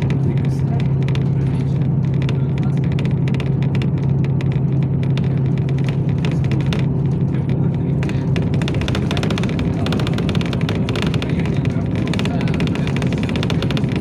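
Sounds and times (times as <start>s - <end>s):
bus engine drone: 0.0s - 14.0s
rattles and clicks: 0.0s - 14.0s.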